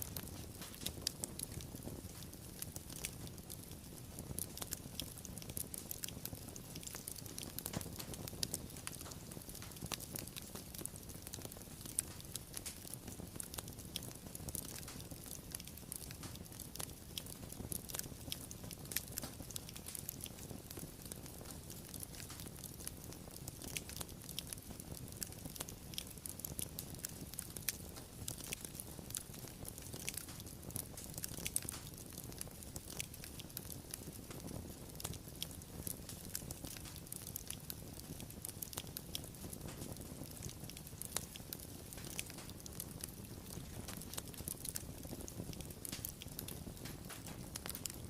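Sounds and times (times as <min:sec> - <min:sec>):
fire crackling: 0:00.0 - 0:48.0.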